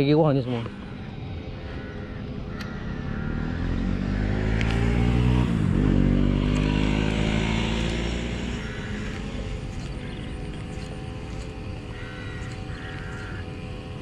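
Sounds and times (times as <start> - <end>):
vehicle engine passing by: 2.7 - 14.0.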